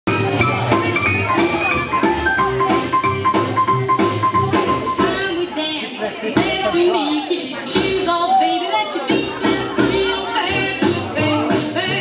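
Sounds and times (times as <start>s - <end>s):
music with drums: 0.1s - 5.6s, 6.2s - 12.0s.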